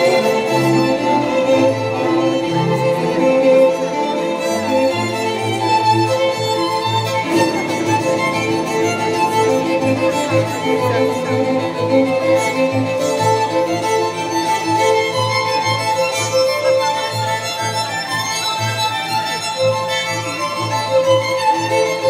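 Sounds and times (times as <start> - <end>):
bowed string melody: 0.0 - 22.0.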